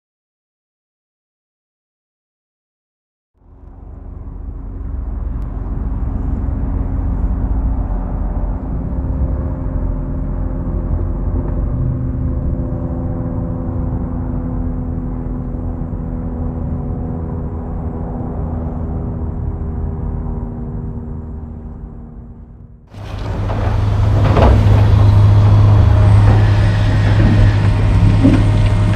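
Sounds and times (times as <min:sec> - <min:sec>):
diesel engine rumbling: 0:03.4 - 0:28.9.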